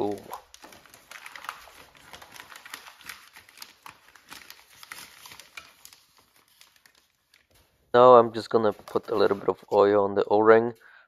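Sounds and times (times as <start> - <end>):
newspaper and rag rustling: 0.0 - 10.0.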